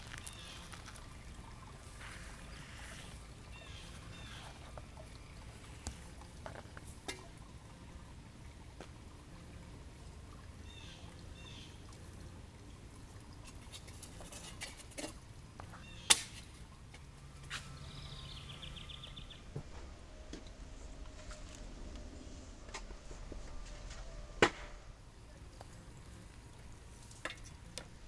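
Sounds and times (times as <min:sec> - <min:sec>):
water trickling from waterfall: 0:00.0 - 0:28.0.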